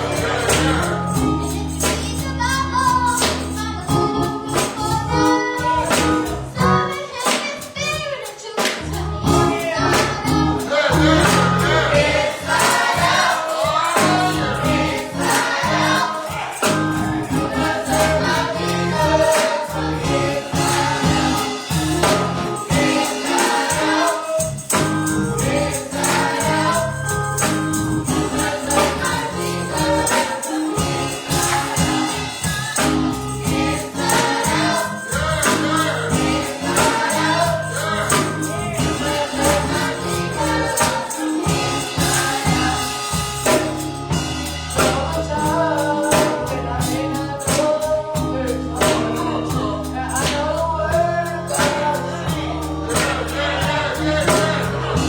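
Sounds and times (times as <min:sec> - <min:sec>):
bass: 0:00.0 - 0:07.2, 0:07.8 - 0:55.0
gospel choir singing: 0:00.0 - 0:07.6, 0:08.3 - 0:55.0
drums: 0:00.0 - 0:55.0
tambourine: 0:00.0 - 0:55.0.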